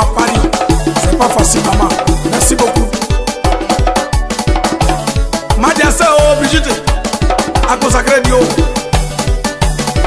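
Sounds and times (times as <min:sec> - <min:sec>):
fast bass drum beat: 0:00.0 - 0:10.0
percussion: 0:00.0 - 0:10.0.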